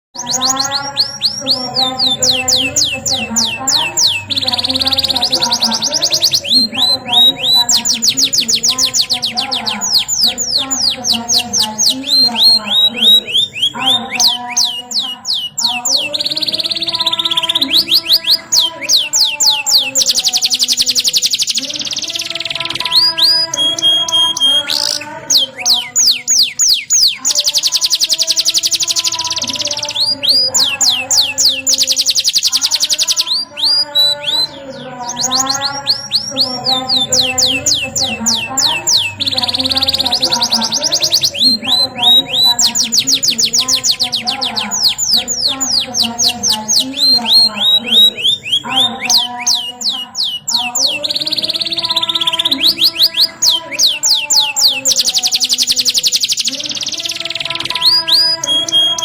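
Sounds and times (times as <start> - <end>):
canary trilling: 0.0 - 59.0
canary whistled notes: 0.1 - 59.0.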